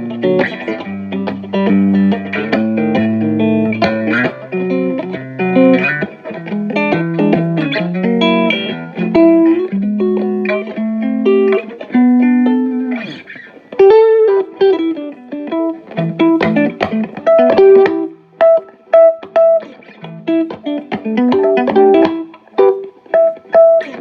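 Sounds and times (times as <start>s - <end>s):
electric guitar through amplifier: 0.0s - 24.0s.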